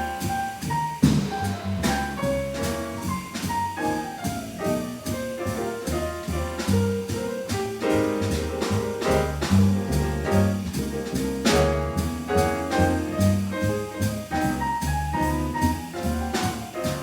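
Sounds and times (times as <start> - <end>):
jazz quartet playing: 0.0 - 17.0.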